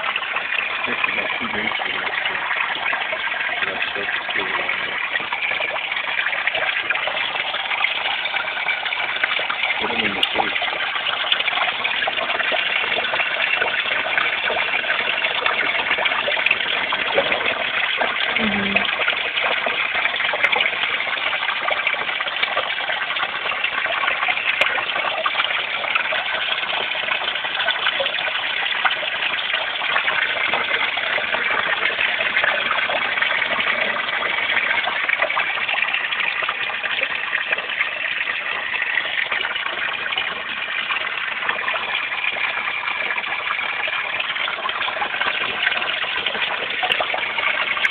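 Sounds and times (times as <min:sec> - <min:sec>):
water splashing into pond: 0:00.0 - 0:47.9.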